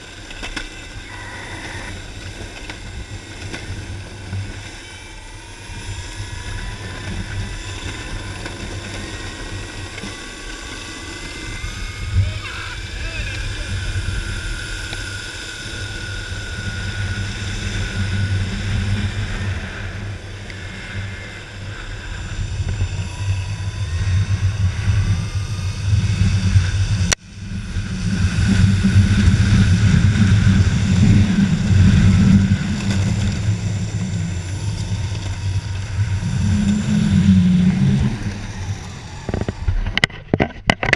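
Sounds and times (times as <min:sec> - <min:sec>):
board wheels rumbling on asphalt: 0:00.0 - 0:40.9
faint high whine: 0:00.0 - 0:40.9
wind buffeting microphone: 0:00.0 - 0:40.9.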